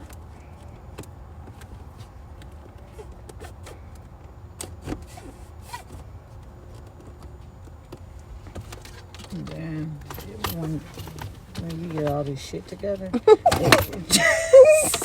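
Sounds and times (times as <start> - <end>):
light clicks and rustles: 0.0 - 15.0.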